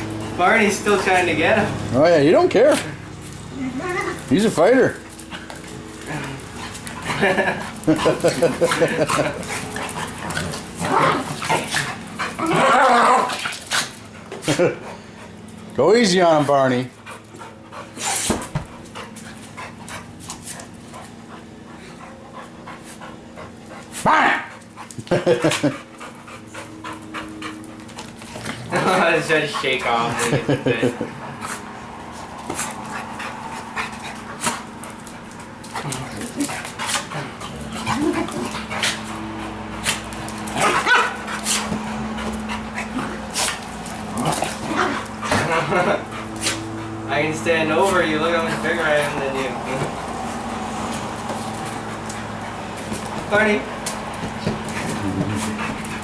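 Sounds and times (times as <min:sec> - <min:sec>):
dog panting: 0:03.9 - 0:12.4, 0:13.8 - 0:56.0.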